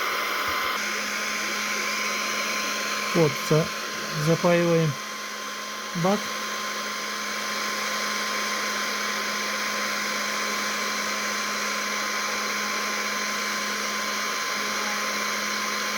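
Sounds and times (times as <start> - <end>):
hot-air gun blowing: 0.0 - 15.9.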